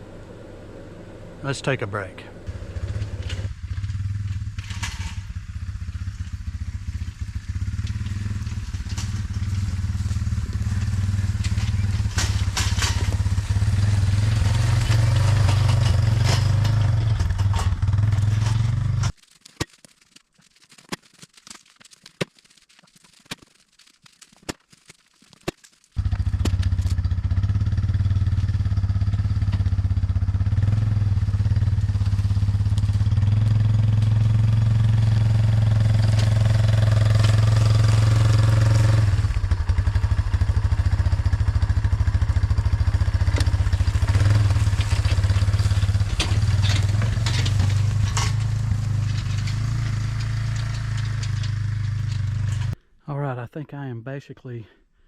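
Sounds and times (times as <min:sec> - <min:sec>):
atv engine running: 0:00.0 - 0:19.1, 0:26.0 - 0:52.8.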